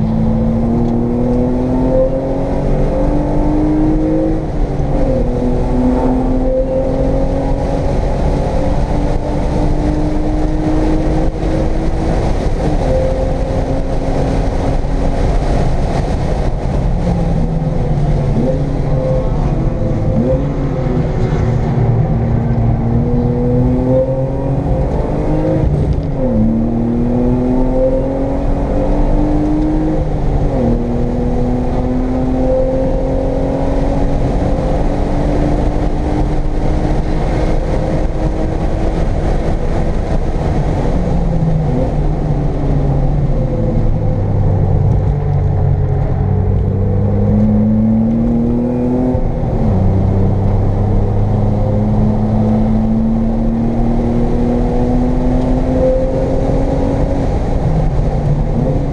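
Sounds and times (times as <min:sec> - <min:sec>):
car engine accelerating: 0:00.0 - 0:58.9
wind and tyre noise: 0:00.0 - 0:58.9.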